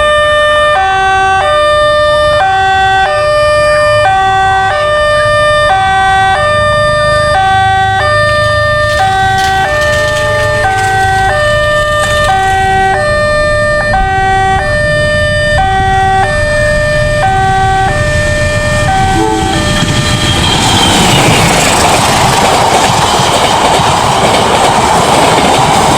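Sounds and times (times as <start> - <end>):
two-tone level crossing siren: 0.0 - 21.7.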